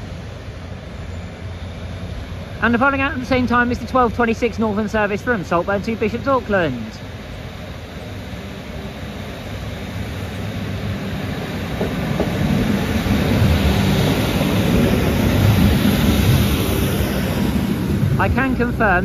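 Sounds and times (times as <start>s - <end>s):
diesel train engines: 0.0s - 19.0s
train wheels on rails: 0.0s - 19.0s.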